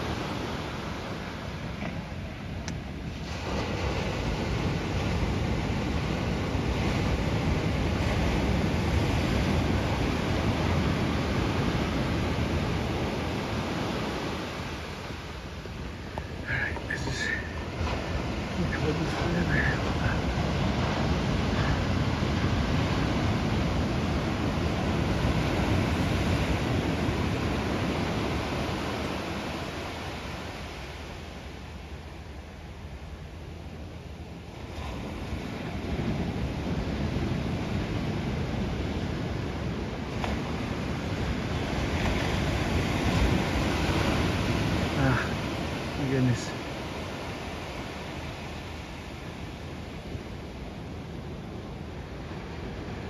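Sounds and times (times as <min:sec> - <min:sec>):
ocean surf washing on shore: 0:00.0 - 0:53.0
small waves breaking: 0:00.0 - 0:53.0
wind rumbling on microphone: 0:00.0 - 0:53.0.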